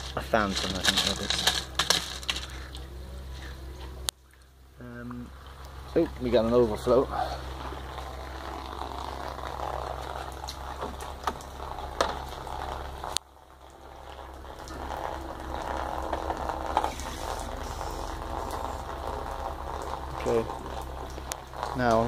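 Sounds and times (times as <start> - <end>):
water trickling and splattering: 0.0 - 22.0.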